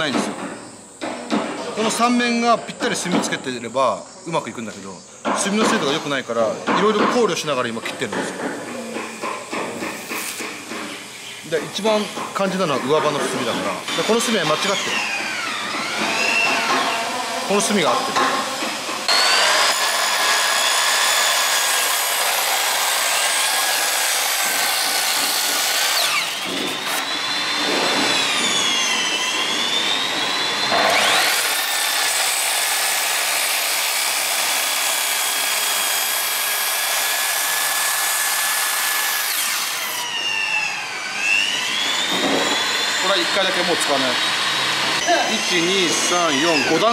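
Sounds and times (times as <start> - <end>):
circular saw cutting wood: 8.8 - 46.9.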